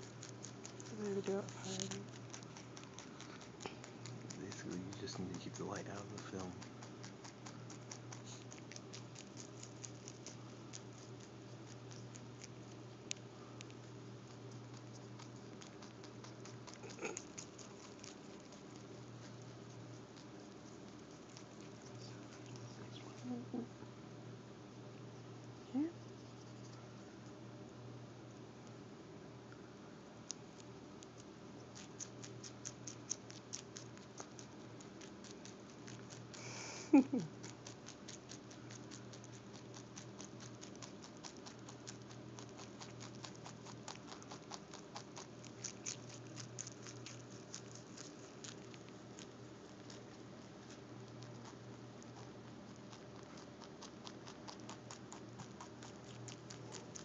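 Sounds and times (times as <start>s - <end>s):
rabbit chewing: 0.0s - 57.0s.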